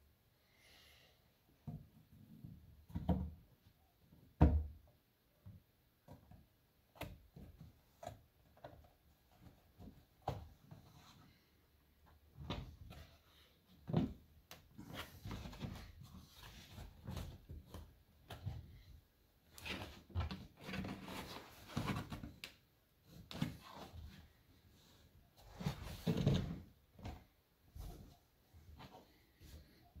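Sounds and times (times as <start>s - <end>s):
wall tiles knocking and scraping: 1.5s - 30.0s.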